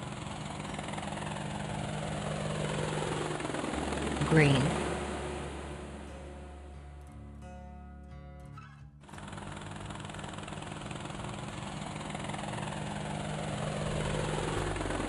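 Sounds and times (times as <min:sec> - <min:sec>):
helicopter engine and rotor: 0:00.0 - 0:07.1, 0:09.0 - 0:15.0.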